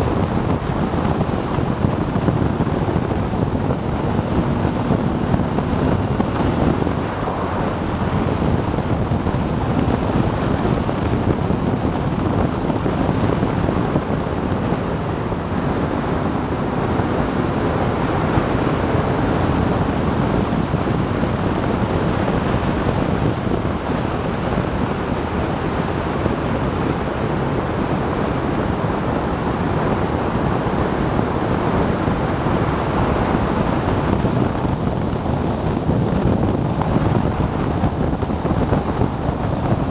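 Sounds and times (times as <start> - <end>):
motorcycle running: 0.0 - 39.9
road noise: 0.0 - 39.9
wind rush over microphone: 0.0 - 39.9.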